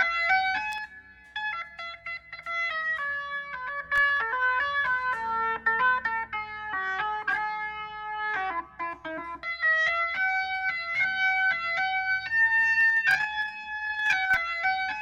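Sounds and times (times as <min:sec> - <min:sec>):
electric guitar picked notes: 0:00.0 - 0:15.0.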